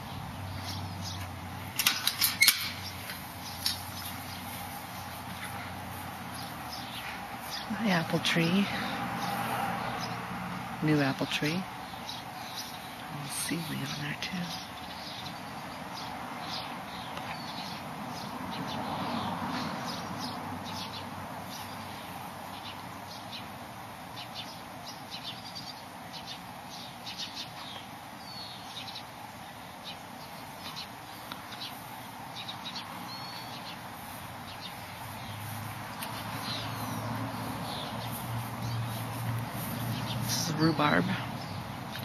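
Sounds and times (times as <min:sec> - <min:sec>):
small birds chirping: 0:00.0 - 0:42.0
steady background noise: 0:00.0 - 0:42.0.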